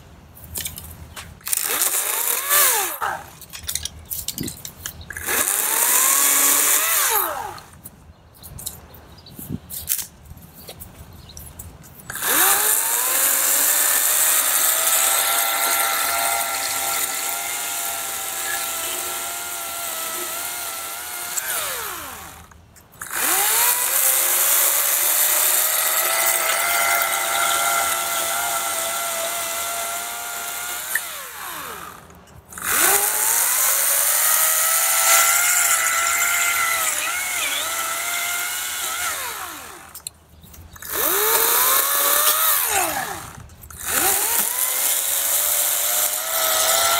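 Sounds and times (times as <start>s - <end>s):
cordless chainsaw cutting wood: 1.5s - 3.4s, 5.2s - 7.8s, 12.1s - 40.0s, 40.8s - 46.9s.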